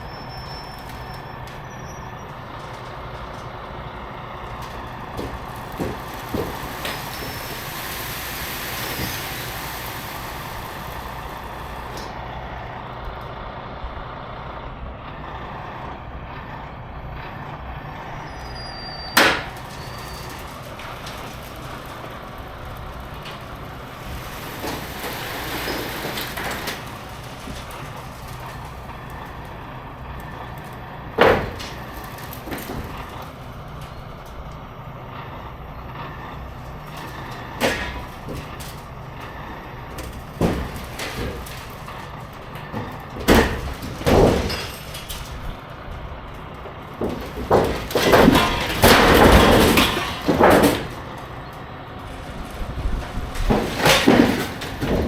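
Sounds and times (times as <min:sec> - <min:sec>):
diesel engines rumbling: 0:00.0 - 0:55.0.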